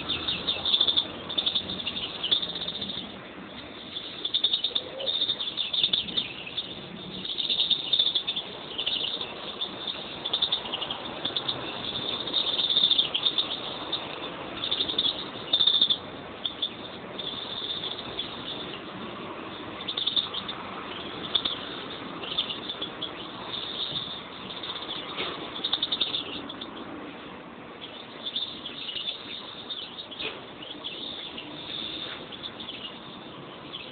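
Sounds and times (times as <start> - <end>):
finches chirping and twittering: 0.0 - 27.0, 27.7 - 33.9.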